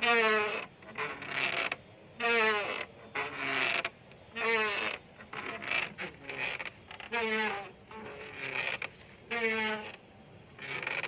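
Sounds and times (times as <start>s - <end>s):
bamboo swing creaking: 0.0s - 11.0s.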